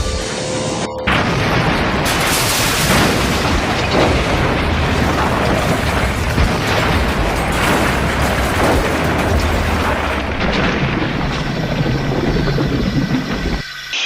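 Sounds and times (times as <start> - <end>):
crash and explosion rumble: 1.0 - 13.9.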